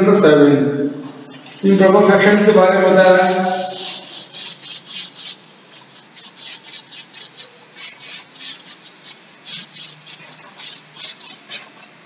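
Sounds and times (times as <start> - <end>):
duster wiping a blackboard: 0.8 - 12.0.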